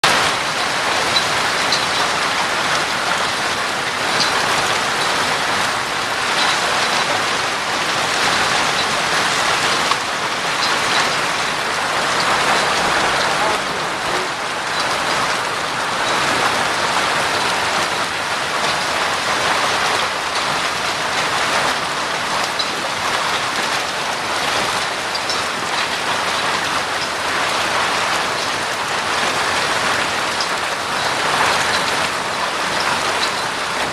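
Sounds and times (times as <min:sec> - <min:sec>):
hail and rain pelting hard surfaces: 0:00.0 - 0:33.9
hailstones clicking: 0:00.1 - 0:33.9.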